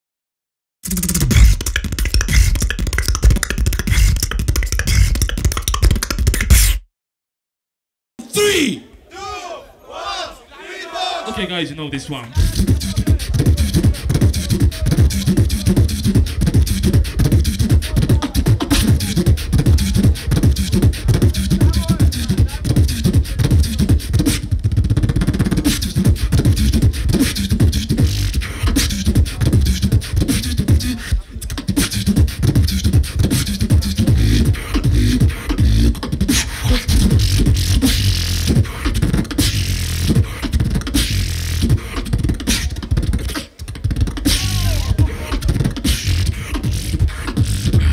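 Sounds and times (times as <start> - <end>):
beatboxing through microphone: 0.8 - 6.8, 11.8 - 47.9.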